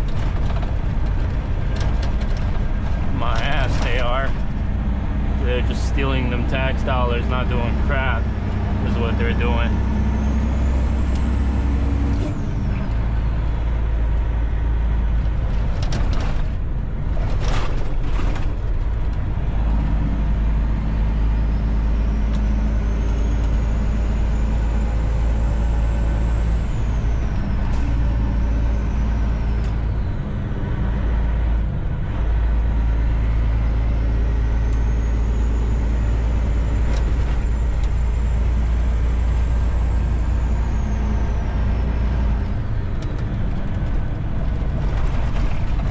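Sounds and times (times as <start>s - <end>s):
diesel engine running: 0.0s - 45.9s
road noise: 0.0s - 45.9s.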